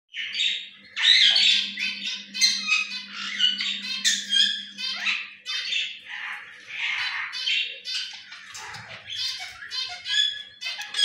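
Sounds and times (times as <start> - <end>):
pet birds squawking: 0.1 - 11.0.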